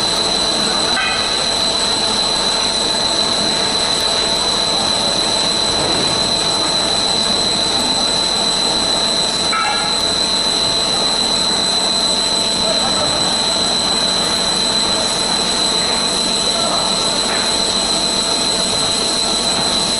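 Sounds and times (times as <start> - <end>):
drill high-pitched whine: 0.0 - 19.9.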